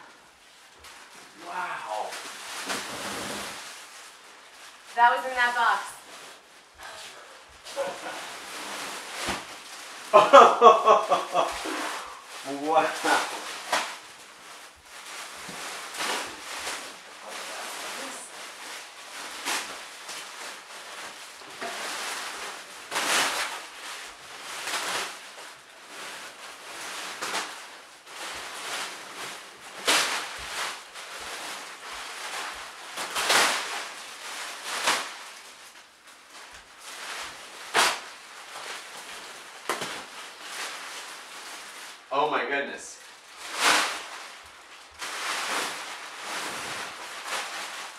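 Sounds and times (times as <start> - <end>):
plastic wrapping rustling: 0.0 - 47.9.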